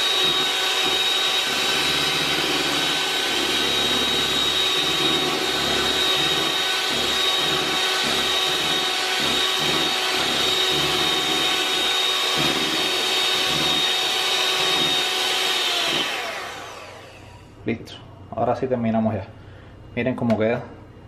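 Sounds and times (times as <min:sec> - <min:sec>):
electric hand mixer whining: 0:00.0 - 0:17.5.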